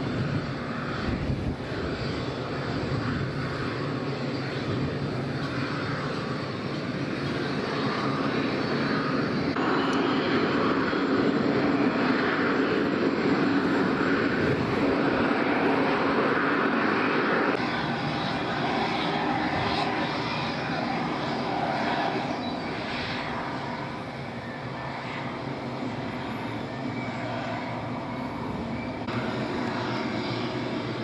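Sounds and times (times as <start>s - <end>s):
light aircraft engine running: 0.0s - 31.0s.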